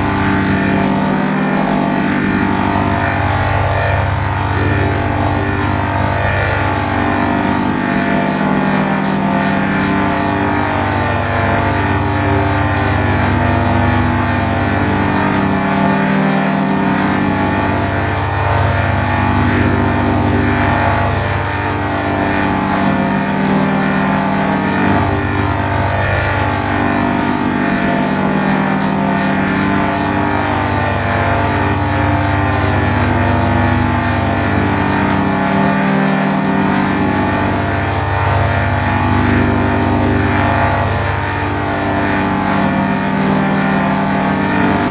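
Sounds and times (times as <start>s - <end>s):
dense drone of stacked tones: 0.0s - 44.9s.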